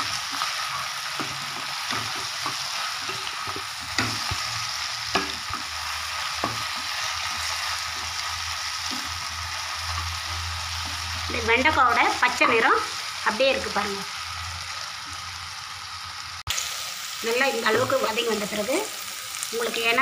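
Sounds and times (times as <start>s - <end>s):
okra sizzling in oil: 0.0s - 20.0s.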